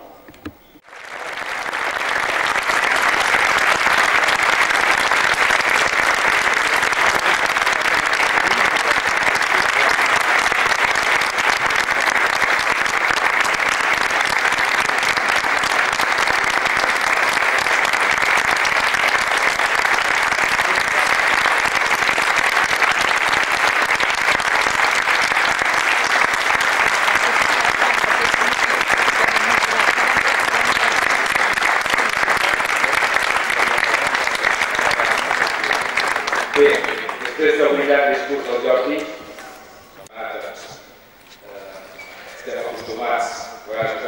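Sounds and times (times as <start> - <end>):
crowd applauding: 0.8 - 39.1.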